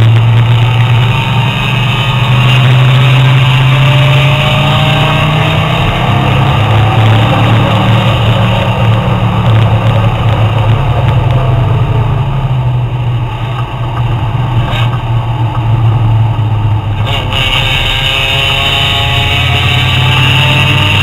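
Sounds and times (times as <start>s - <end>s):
wind noise: 0.0s - 17.5s
car engine inside cabin: 0.0s - 21.0s.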